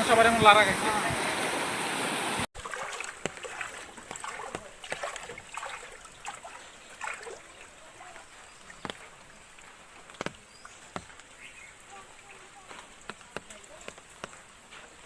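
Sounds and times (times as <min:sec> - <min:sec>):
rushing floodwater: 0:00.0 - 0:15.0
small splashes and drips: 0:02.6 - 0:15.0.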